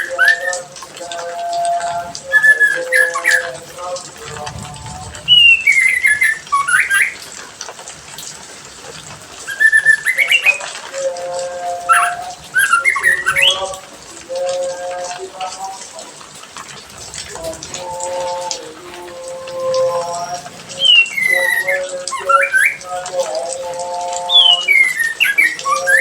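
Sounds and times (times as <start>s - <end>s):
songbird whistling: 0.0s - 7.3s, 9.4s - 15.2s, 17.3s - 26.0s.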